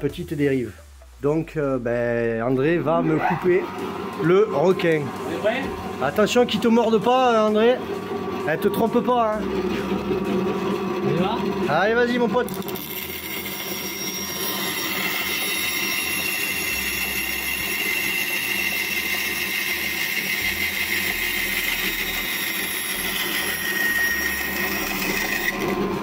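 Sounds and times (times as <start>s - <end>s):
band saw cutting plastic: 2.9s - 26.0s.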